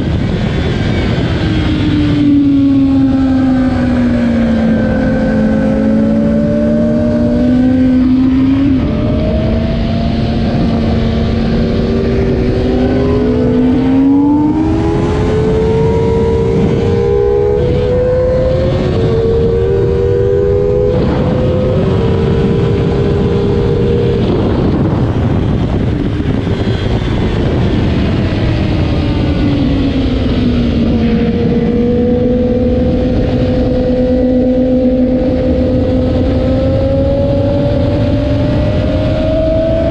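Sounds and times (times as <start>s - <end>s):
motorcycle engine at speed: 0.0s - 39.9s
wind rush: 0.0s - 39.9s.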